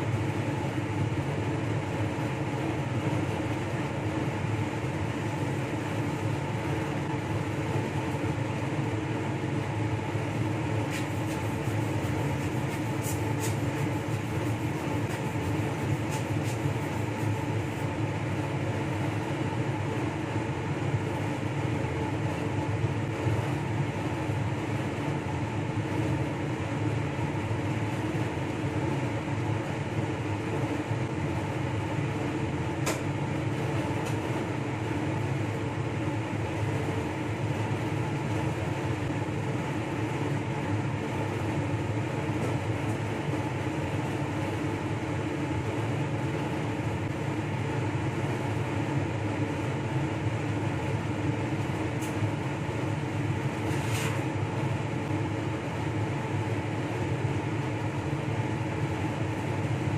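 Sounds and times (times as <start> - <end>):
blower fan whooshing hum: 0.0 - 59.9.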